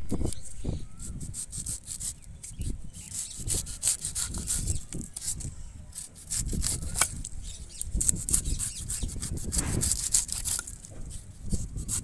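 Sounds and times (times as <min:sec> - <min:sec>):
knife scraping bamboo shoot: 0:00.1 - 0:12.0.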